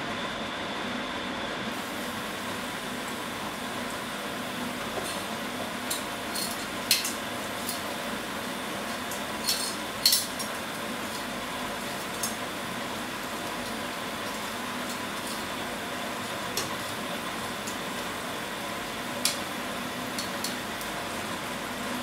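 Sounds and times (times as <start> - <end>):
gas stove hissing: 1.6 - 22.0.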